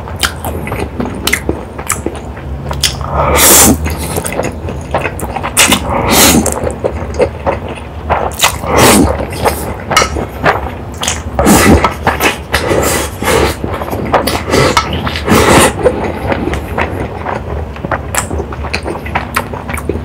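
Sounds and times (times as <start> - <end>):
chewing: 0.0 - 20.0
slurping noodles: 2.8 - 19.9.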